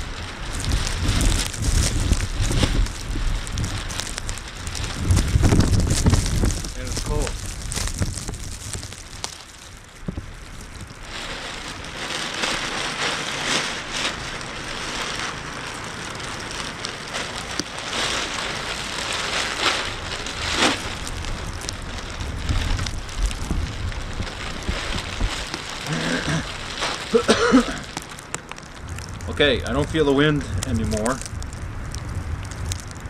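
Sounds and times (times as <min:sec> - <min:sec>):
plastic bag rustling and crinkling: 0:00.0 - 0:33.0
wind gusting: 0:00.0 - 0:33.0.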